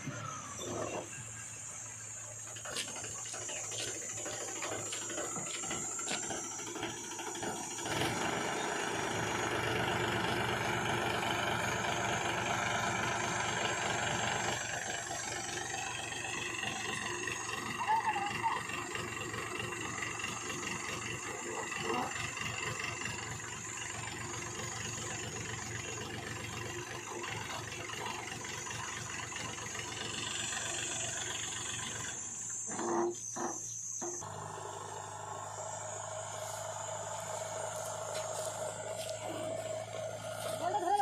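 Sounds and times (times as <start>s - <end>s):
diesel machinery engine running: 0.0s - 41.0s.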